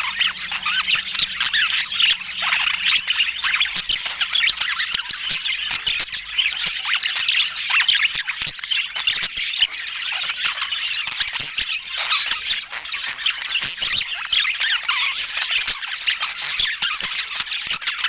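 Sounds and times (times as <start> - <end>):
budgerigars chattering: 0.0 - 16.6.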